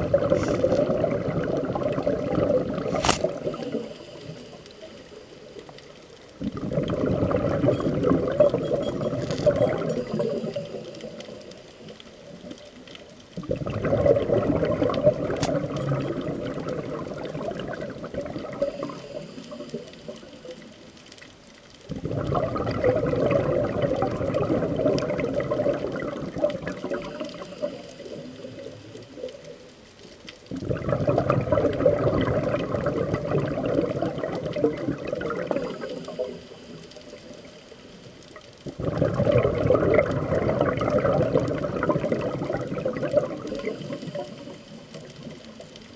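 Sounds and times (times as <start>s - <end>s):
underwater bubbles rushing: 0.0s - 45.9s.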